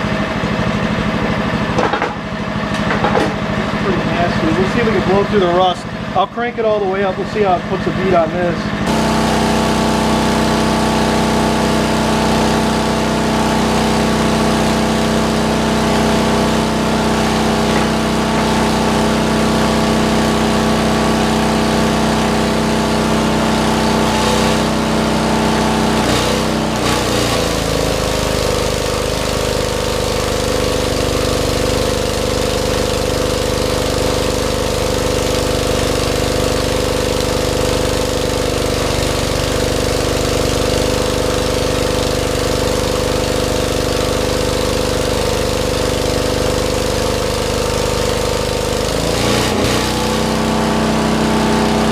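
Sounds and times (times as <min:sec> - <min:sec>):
generator engine running: 0:00.0 - 0:51.9.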